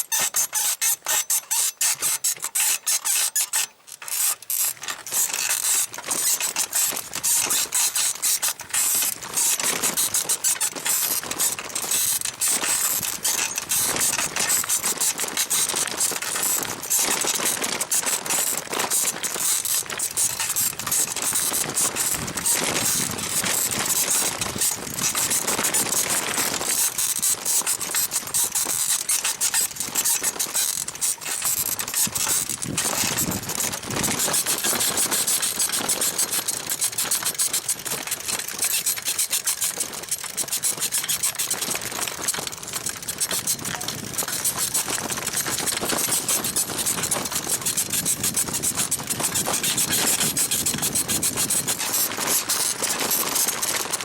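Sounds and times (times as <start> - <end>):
bicycle saddle springs squeaking: 0.0 - 54.0.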